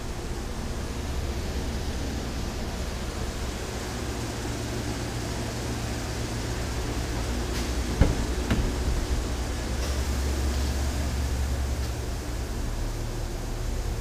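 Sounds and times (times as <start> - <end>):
constant hiss: 0.0 - 14.0
steady low hum: 0.0 - 14.0.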